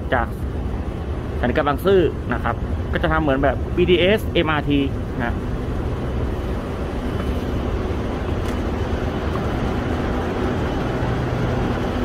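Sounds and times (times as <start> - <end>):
constant low hum: 0.0 - 12.0
steady rushing noise: 0.0 - 12.0.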